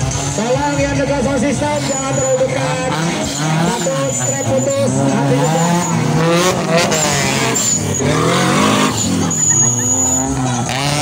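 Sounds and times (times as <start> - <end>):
buggy engines revving: 0.0 - 11.0.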